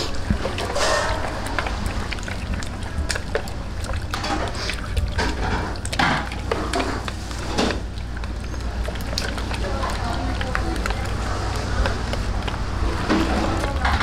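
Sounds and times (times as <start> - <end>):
wet squelching and sloshing: 0.0 - 14.0.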